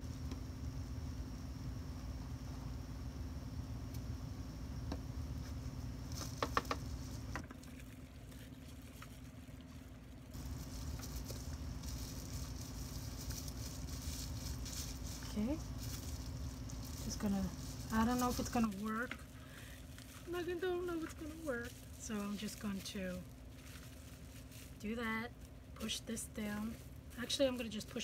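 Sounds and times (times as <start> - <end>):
steady low hum: 0.0 - 28.0
bubble wrap crinkling: 5.4 - 28.0.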